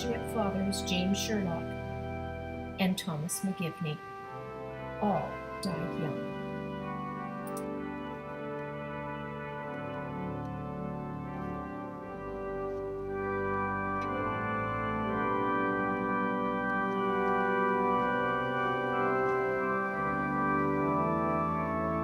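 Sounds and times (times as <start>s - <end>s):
organ playing sustained chords: 0.0s - 22.0s.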